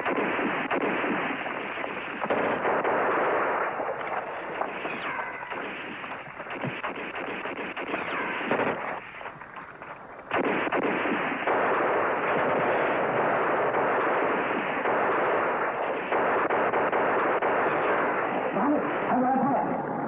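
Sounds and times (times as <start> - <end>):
heavy gunfire: 0.0 - 20.0.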